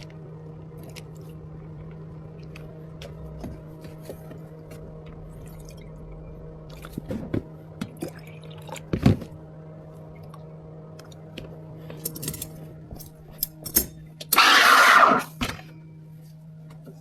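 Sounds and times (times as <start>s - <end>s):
equipment humming: 0.0s - 17.0s.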